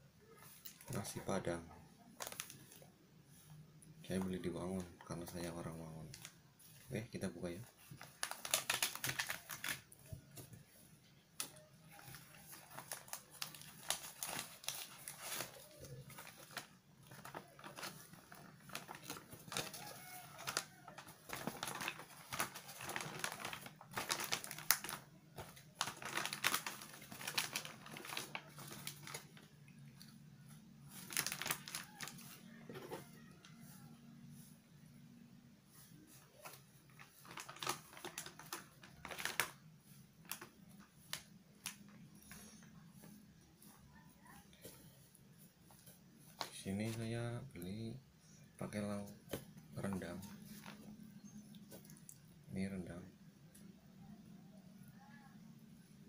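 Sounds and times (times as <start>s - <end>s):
paper wrapping crinkling: 0.3s - 33.8s, 35.7s - 47.7s, 48.6s - 52.2s.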